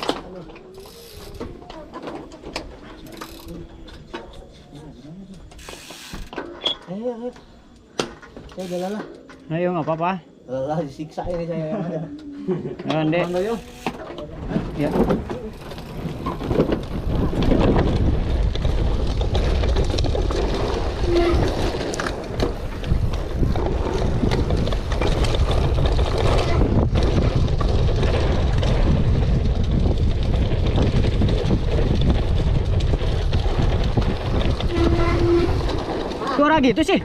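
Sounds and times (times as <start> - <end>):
bike rattling: 0.0 - 10.1, 12.6 - 37.0
wind and tyres rumbling: 0.0 - 11.7, 12.5 - 37.0.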